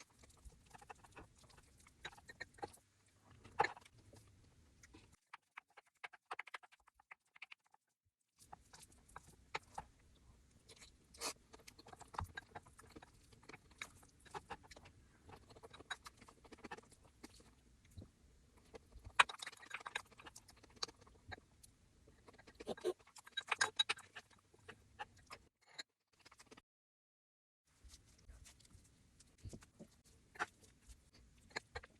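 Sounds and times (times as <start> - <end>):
person chewing crunchy food: 0.0 - 6.8, 8.4 - 18.0, 18.6 - 25.4, 29.4 - 31.9.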